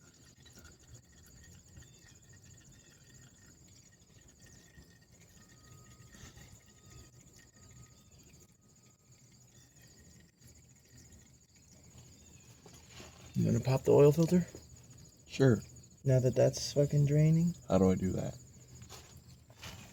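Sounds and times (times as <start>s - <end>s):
insect trill: 0.0s - 19.9s.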